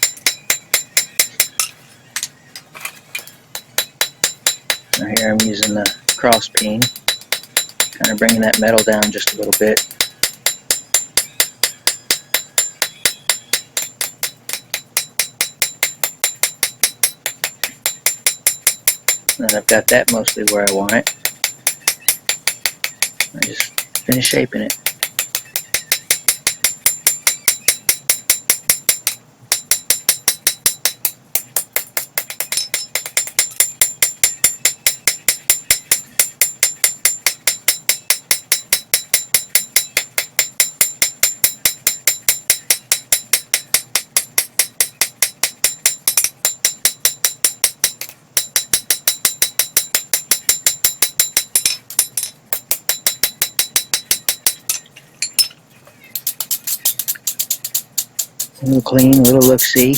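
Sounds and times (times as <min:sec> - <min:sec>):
hammer ringing on anvil: 0:00.0 - 0:02.3, 0:03.5 - 0:55.5.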